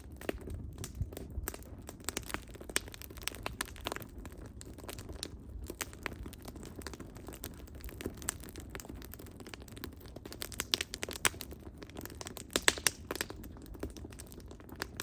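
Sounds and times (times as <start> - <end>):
firewood crackling and popping: 0.0 - 15.0
low rumble of flame: 0.0 - 15.0.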